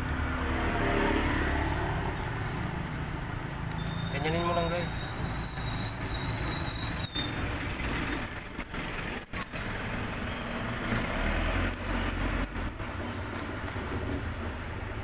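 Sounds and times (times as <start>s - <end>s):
passing vehicles: 0.0s - 15.0s
low engine rumble: 2.0s - 15.0s.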